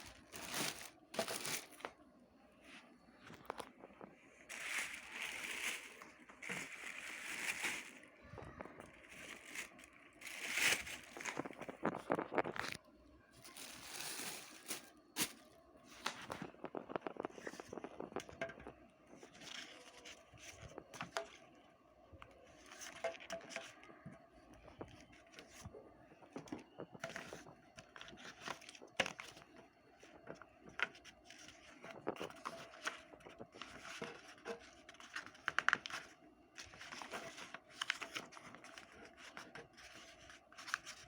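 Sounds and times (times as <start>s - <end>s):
plastic and cardboard crinkling: 0.0s - 2.0s, 2.6s - 12.8s, 13.4s - 21.4s, 22.5s - 41.0s.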